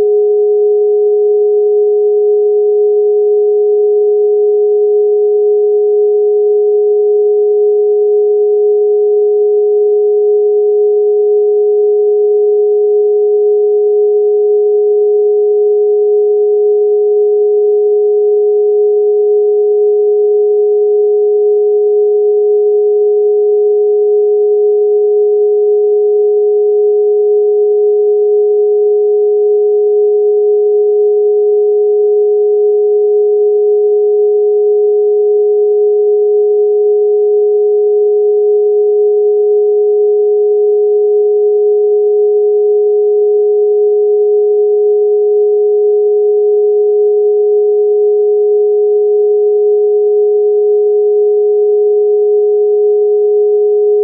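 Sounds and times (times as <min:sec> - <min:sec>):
synthesized sine tone: 0:00.0 - 0:49.9, 0:50.5 - 0:54.0.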